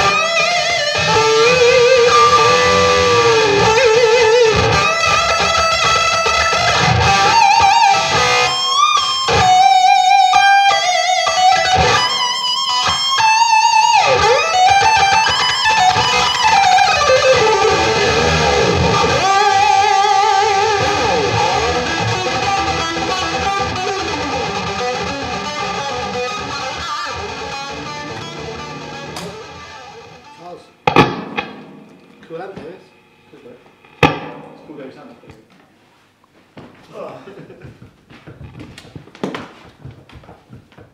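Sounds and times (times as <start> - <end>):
electric guitar lead lines: 0.0 - 35.4.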